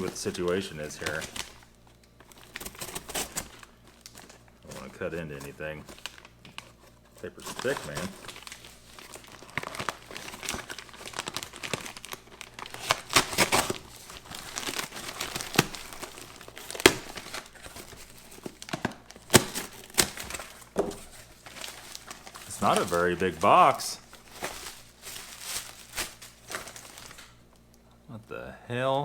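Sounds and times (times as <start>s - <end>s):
paper wrapping tearing and crinkling: 0.0s - 27.5s.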